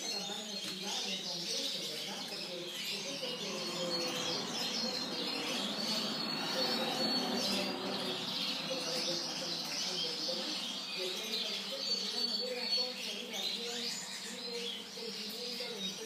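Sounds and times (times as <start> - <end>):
canary singing chirps and trills: 0.0 - 16.0.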